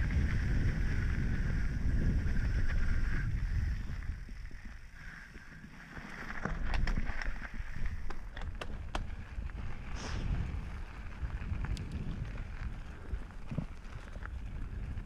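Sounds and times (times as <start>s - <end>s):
wind buffeting microphone: 0.0s - 4.8s, 6.5s - 15.0s
bike clicks and rattles: 0.0s - 15.0s
bike tyre noise on dirt: 0.0s - 15.0s.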